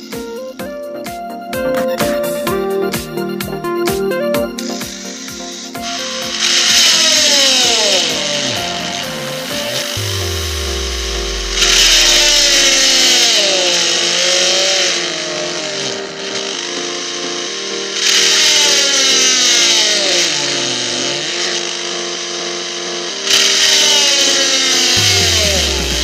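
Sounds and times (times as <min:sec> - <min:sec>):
background music: 0:00.0 - 0:26.0
small drill motor whining: 0:04.6 - 0:26.0.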